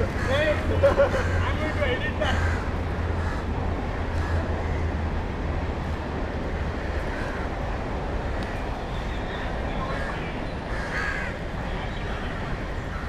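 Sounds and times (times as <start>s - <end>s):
noisy outdoor background: 0.0s - 13.0s.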